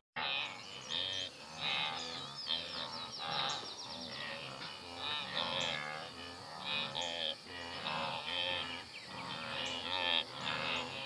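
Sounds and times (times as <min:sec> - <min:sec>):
high insect drone: 0:00.2 - 0:11.0
wildebeest grunting and calling: 0:00.2 - 0:11.0.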